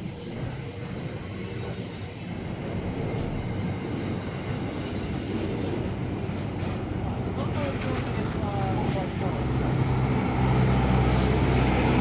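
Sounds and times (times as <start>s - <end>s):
freight train rolling on rails: 0.0s - 12.0s.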